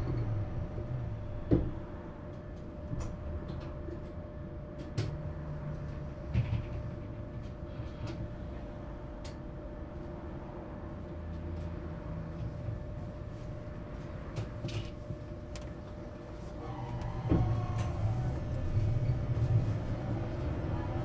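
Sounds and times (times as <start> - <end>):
tram electrical hum and whine: 0.0 - 21.0.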